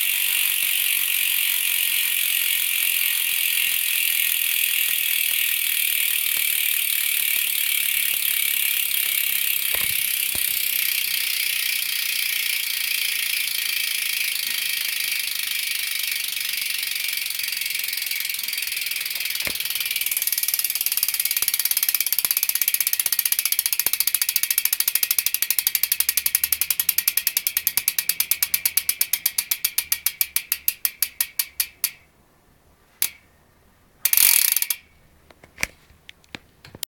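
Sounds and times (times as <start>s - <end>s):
bicycle hub freewheel ratcheting: 0.0s - 32.1s, 33.0s - 33.2s, 34.0s - 34.9s.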